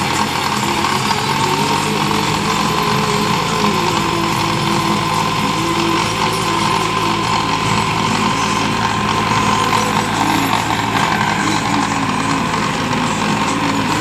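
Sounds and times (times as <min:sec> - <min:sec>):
high whine: 0:00.0 - 0:14.0
rotavator blades churning soil: 0:00.0 - 0:14.0
tractor diesel engine running: 0:00.0 - 0:14.0.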